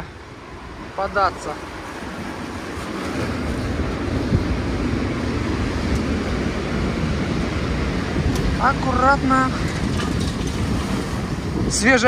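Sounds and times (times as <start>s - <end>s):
waves rushing over promenade: 0.0s - 12.0s
wind buffeting microphone: 0.0s - 12.0s.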